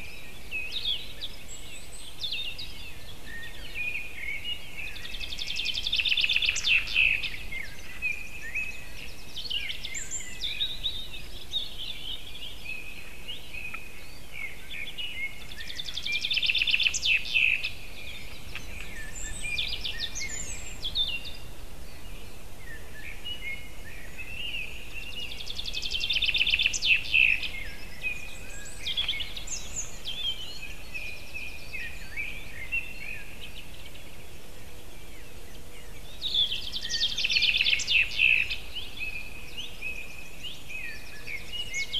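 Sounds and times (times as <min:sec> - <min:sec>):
bird calls and chirps: 0:00.0 - 0:41.9
bird song with fast trill: 0:00.0 - 0:41.9
faint steady hiss: 0:00.0 - 0:41.9.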